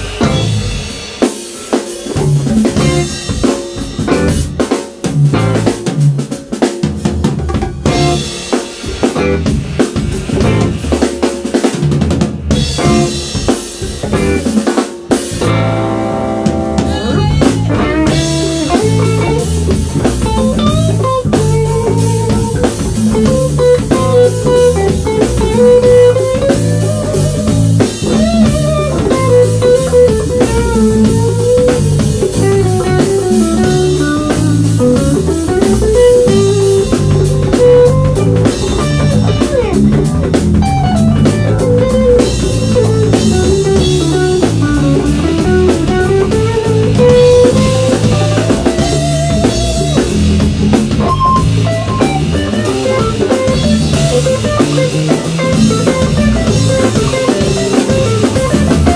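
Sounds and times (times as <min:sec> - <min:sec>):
blues-rock band playing: 0:00.0 - 0:58.9
electric guitar lead line: 0:00.0 - 0:58.9.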